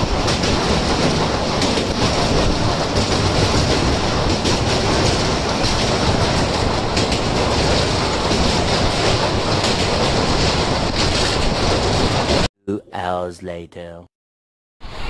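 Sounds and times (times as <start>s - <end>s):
train wheels on rails: 0.0s - 12.5s.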